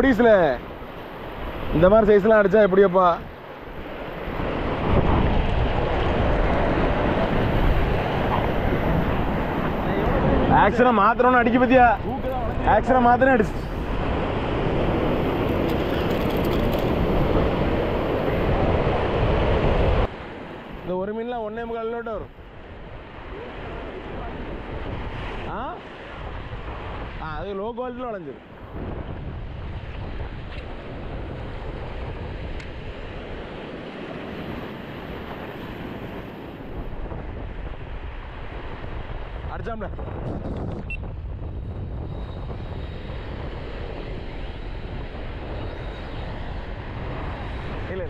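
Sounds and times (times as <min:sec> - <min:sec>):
wind buffeting microphone: 0:00.0 - 0:21.5, 0:22.1 - 0:48.0
sea surf: 0:00.0 - 0:40.2, 0:40.9 - 0:48.0.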